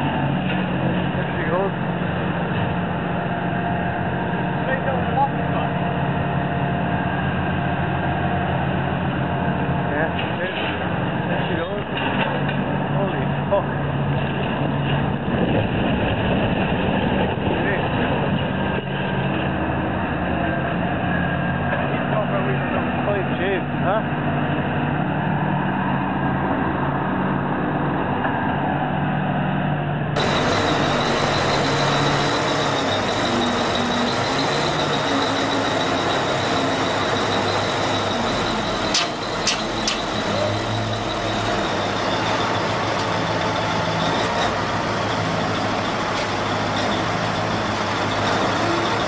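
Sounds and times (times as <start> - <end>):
diesel engines running under load: 0.0 - 49.0.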